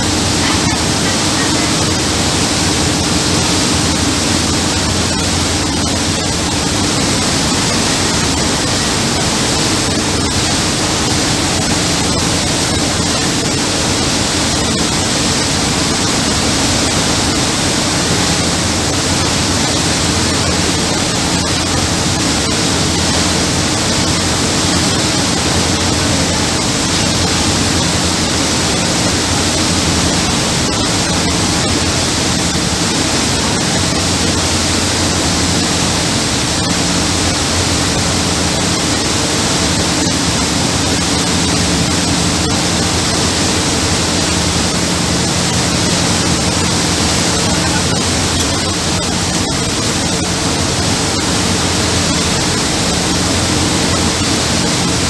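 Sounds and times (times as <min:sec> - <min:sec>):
boat engines humming: 0:00.0 - 0:55.0
boat wake water rushing: 0:00.0 - 0:55.0.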